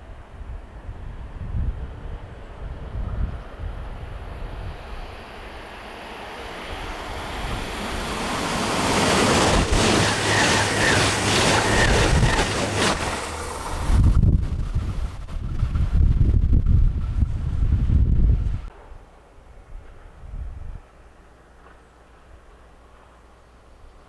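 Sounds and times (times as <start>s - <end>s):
wind buffeting microphone: 0.0s - 18.7s, 19.5s - 20.9s
high-speed train passing: 0.0s - 23.4s.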